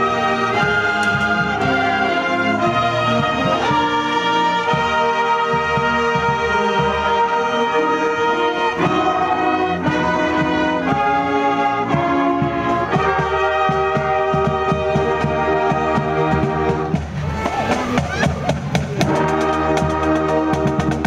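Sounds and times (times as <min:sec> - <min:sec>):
brass chords: 0:00.0 - 0:21.0
drumline strokes: 0:00.0 - 0:21.0.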